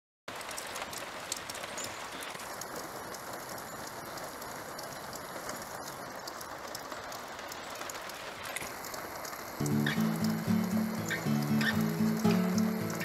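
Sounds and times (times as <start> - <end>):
steady rain falling: 0.3 - 13.0.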